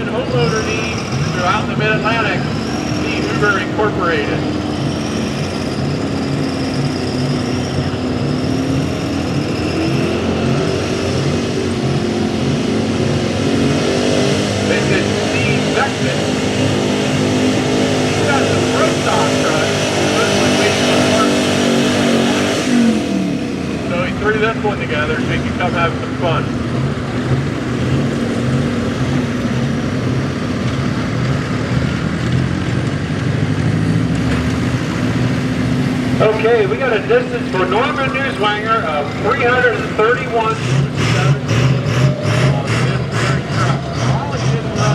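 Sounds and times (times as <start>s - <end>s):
pickup truck engine under load: 0.0s - 44.9s.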